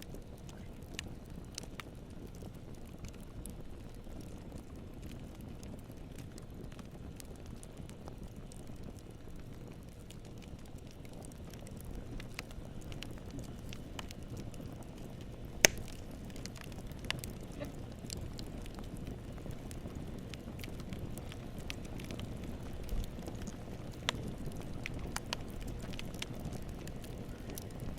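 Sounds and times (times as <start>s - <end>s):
campfire wood crackling: 0.0s - 27.9s
low steady rumble: 0.0s - 27.9s.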